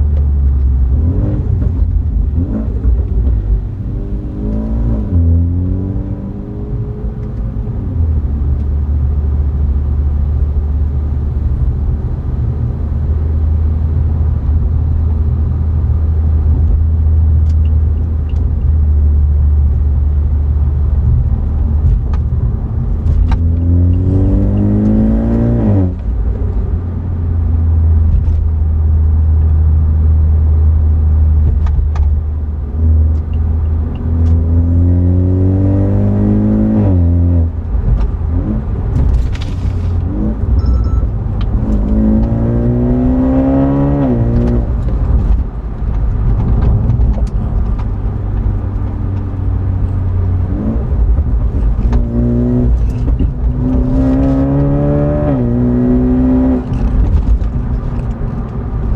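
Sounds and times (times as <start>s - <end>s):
car engine and exhaust droning: 0.0s - 58.9s.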